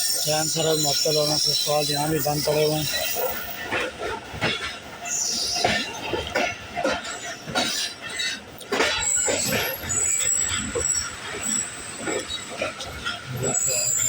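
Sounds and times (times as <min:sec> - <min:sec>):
rail cars knocking and clanking: 0:00.0 - 0:14.0
train wheel squeal: 0:00.0 - 0:14.0.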